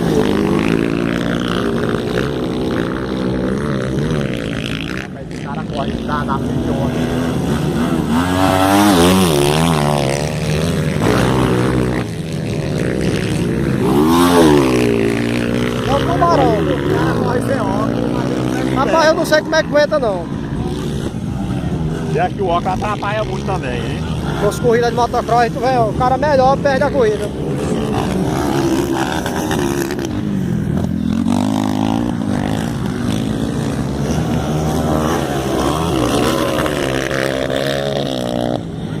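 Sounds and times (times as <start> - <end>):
motocross motorcycle engines revving: 0.0 - 39.0.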